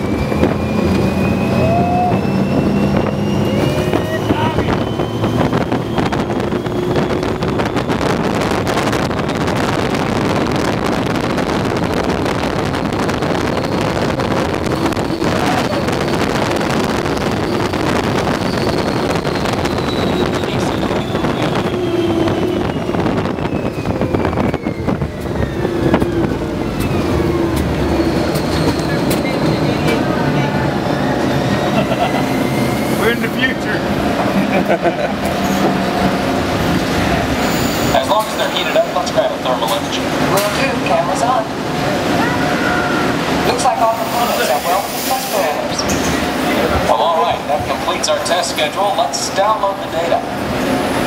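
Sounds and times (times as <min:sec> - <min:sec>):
wind rushing on microphone: 0:00.0 - 0:49.4.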